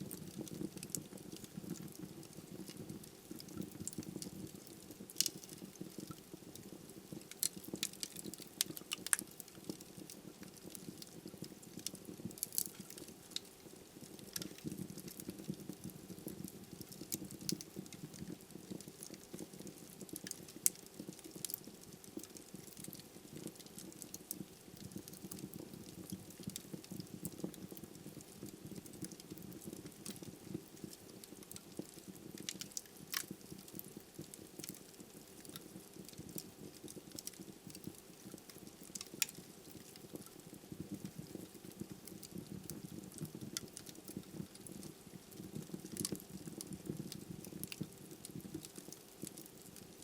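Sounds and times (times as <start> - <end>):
flames fluttering: 0.0 - 50.0
wood fire crackling: 0.0 - 50.0.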